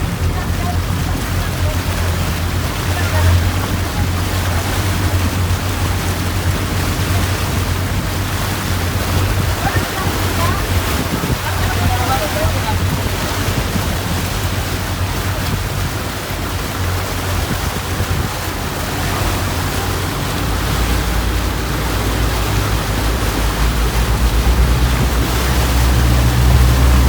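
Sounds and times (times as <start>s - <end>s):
motorboat engine droning: 0.0s - 27.0s
rush of wind and water: 0.0s - 27.0s.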